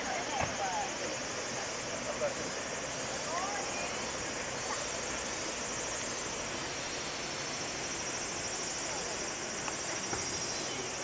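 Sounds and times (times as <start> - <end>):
background hiss: 0.0 - 11.0
insects buzzing: 0.0 - 11.0.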